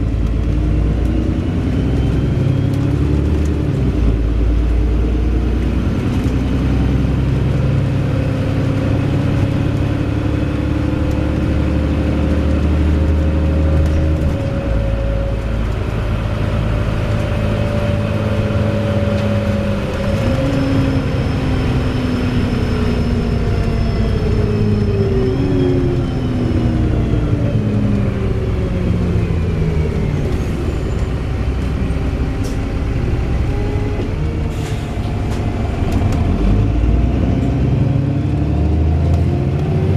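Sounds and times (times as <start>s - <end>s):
bus engine heard from on board: 0.0s - 39.9s.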